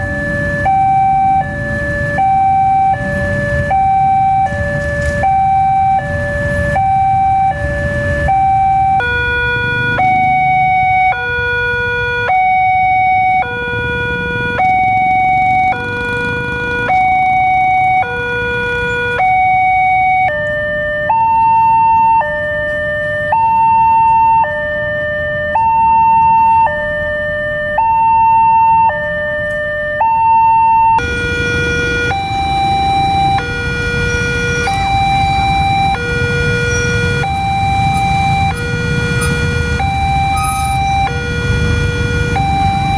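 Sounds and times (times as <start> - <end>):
level crossing two-tone sirens: 0.0 - 42.9.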